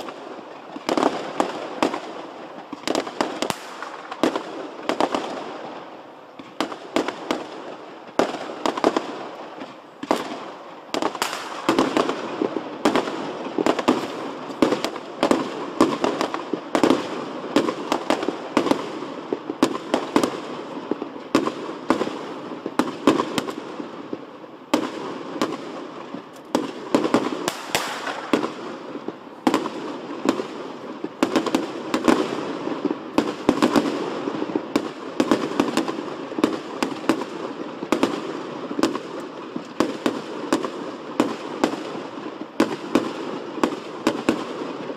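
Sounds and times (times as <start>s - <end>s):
fireworks bursting: 0.0s - 44.9s
fireworks crackling: 0.0s - 44.9s.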